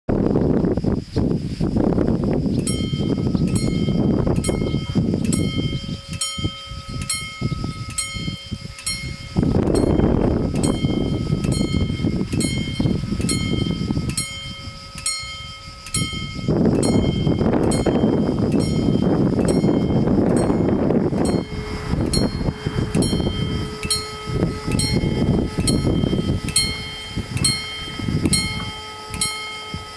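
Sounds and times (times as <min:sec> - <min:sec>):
wind on microphone: 0:00.1 - 0:29.9
level-crossing warning bells: 0:02.6 - 0:29.9.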